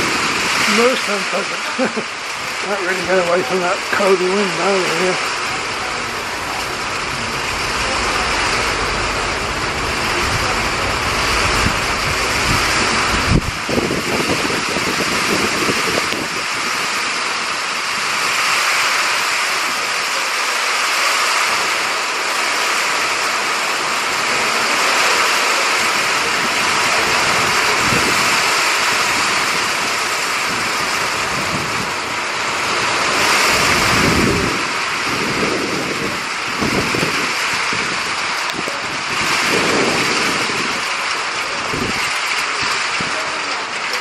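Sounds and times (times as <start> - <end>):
wind buffeting microphone: 0.0 - 18.6, 26.0 - 43.3
heavy rain falling: 0.0 - 44.0.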